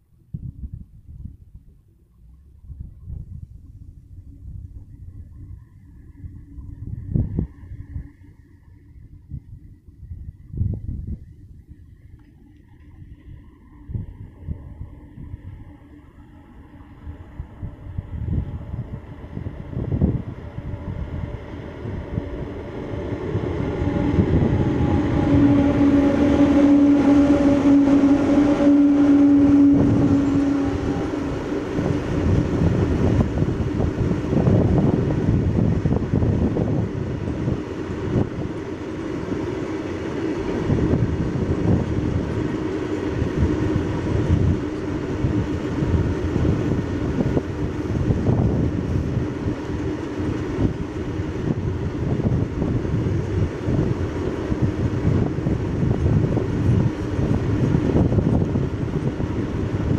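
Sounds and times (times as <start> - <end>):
electric locomotives humming: 0.0 - 59.9
train wheels rumbling on rails: 2.3 - 59.9.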